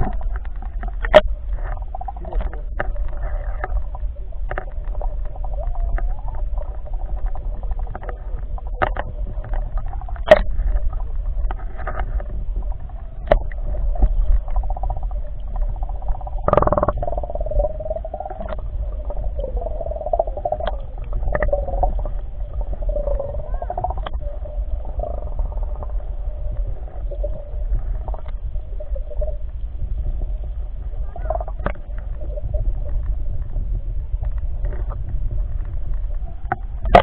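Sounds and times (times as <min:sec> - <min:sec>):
underwater clicks and knocks: 0:00.0 - 0:24.3, 0:31.1 - 0:37.0
underwater rumble of moving water: 0:00.0 - 0:37.0.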